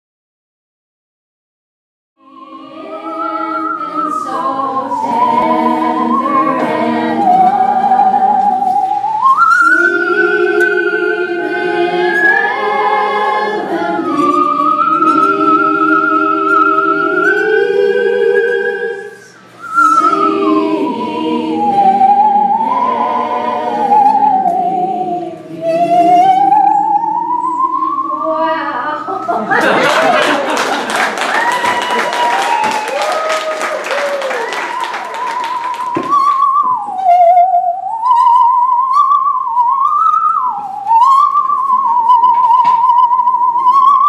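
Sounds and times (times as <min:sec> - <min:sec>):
bowed musical saw melody: 0:02.3 - 0:28.8, 0:31.4 - 0:44.0.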